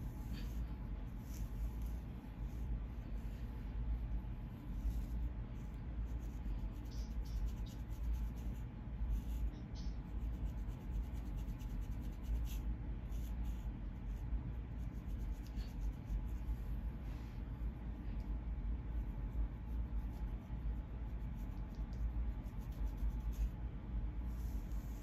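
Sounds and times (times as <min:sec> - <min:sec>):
comb scratching scalp: 0:00.0 - 0:03.4, 0:04.1 - 0:16.6, 0:18.9 - 0:23.6
steady low hum: 0:00.0 - 0:25.0.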